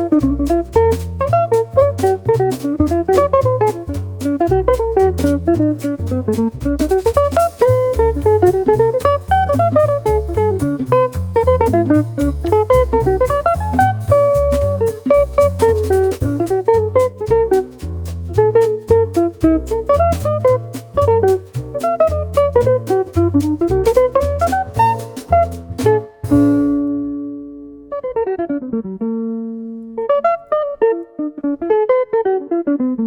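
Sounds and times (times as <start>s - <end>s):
upbeat jazzy instrumental music: 0.0s - 28.2s.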